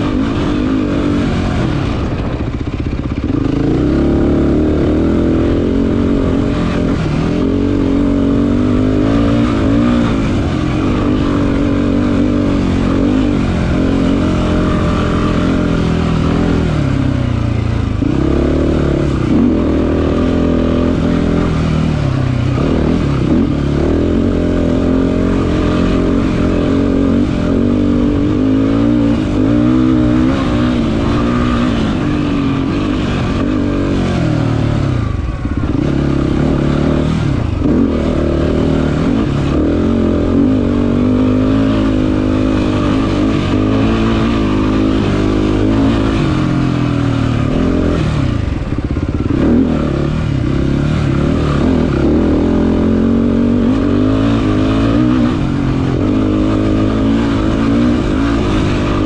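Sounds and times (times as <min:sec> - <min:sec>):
quad engine revving hard: 0:00.0 - 0:59.0.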